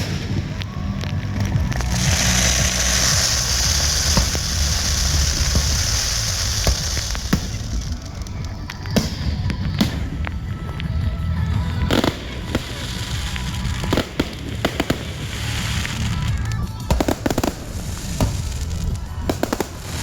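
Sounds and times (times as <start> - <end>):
fireworks bangs: 0.0 - 20.0
fireworks crackling: 0.0 - 20.0
low rumble: 0.0 - 20.0.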